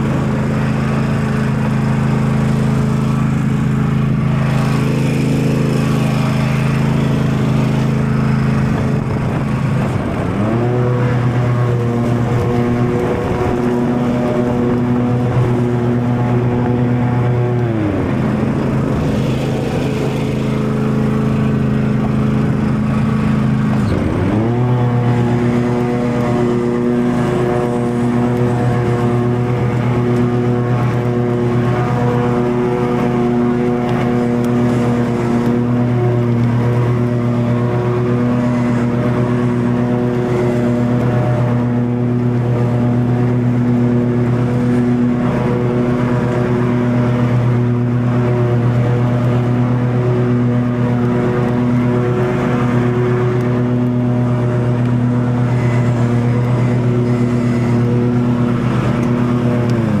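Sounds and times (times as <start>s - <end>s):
riding mower engine running: 0.0s - 60.0s.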